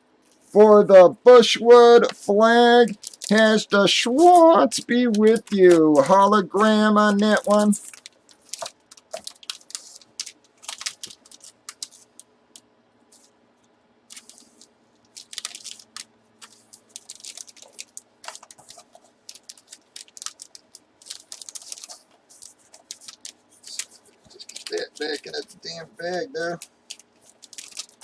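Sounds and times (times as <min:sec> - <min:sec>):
plastic packaging crinkling: 0:02.8 - 0:03.6, 0:04.2 - 0:12.3, 0:14.1 - 0:28.0.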